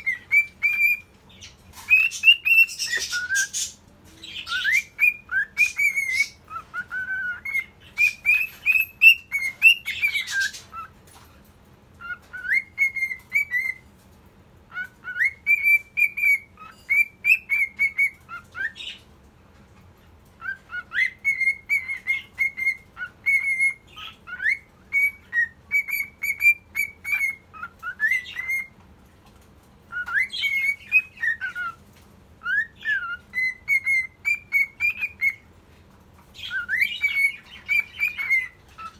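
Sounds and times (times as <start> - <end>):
cockatiel whistling: 0.0 - 11.0, 12.0 - 13.9, 14.7 - 19.0, 20.4 - 28.8, 29.9 - 31.8, 32.4 - 35.5, 36.4 - 38.9.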